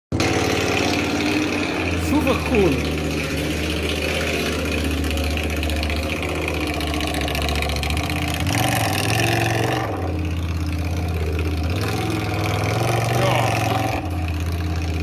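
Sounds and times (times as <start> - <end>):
motorcycle engine idling: 0.1 - 15.0.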